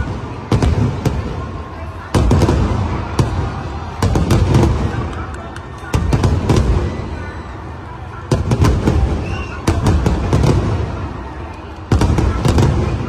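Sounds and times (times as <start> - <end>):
fireworks booming bursts: 0.0 - 7.3, 8.2 - 13.0
fireworks sharp bangs and cracks: 0.0 - 13.0.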